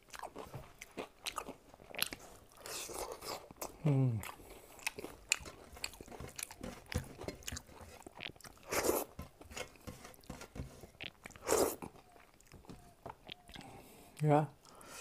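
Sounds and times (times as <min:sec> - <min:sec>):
chewing with wet mouth clicks: 0:00.0 - 0:09.1, 0:10.9 - 0:14.8.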